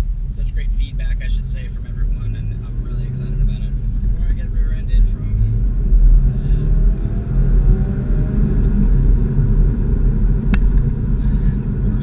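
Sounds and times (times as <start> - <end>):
car exhaust deep rumble: 0.0 - 12.0.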